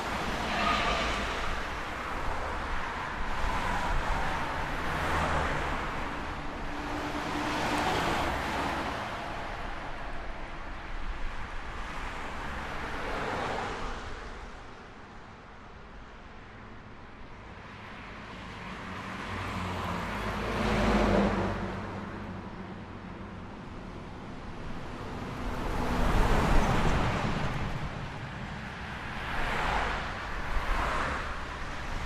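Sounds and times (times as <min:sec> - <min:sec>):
cars passing: 0:00.0 - 0:14.8, 0:17.4 - 0:32.0.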